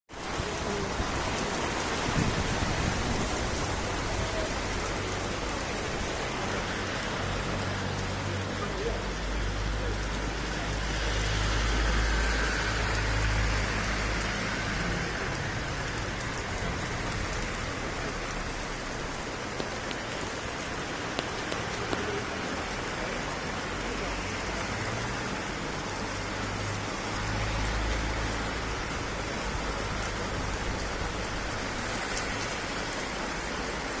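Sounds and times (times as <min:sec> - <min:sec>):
rain falling: 0:00.1 - 0:34.0.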